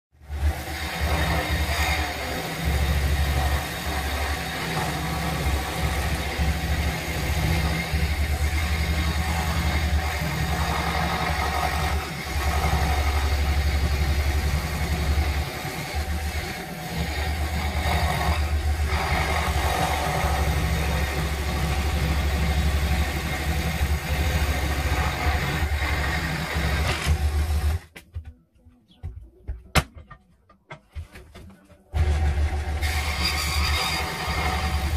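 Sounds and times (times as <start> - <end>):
scroll saw cutting wood: 0.2 - 27.8, 32.0 - 34.9.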